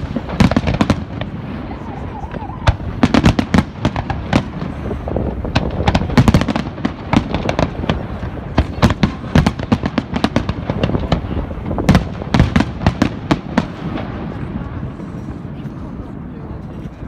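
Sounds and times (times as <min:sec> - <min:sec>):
firework bangs and crackles: 0:00.0 - 0:17.0.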